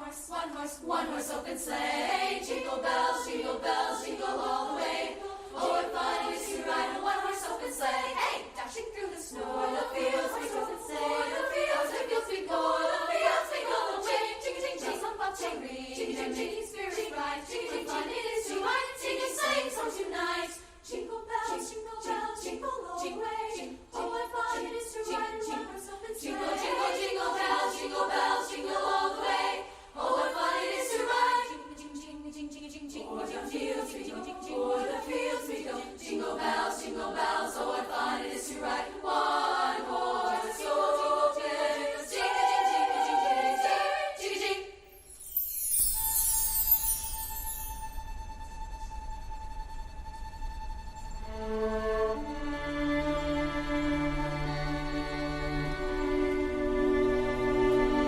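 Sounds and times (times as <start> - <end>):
a cappella choir singing: 0.0 - 47.9, 51.6 - 58.0.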